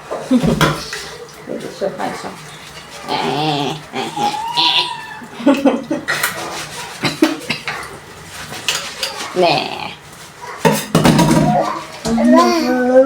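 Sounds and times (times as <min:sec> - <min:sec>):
metal utensils and dishes clattering: 0:00.0 - 0:04.8, 0:05.5 - 0:12.7.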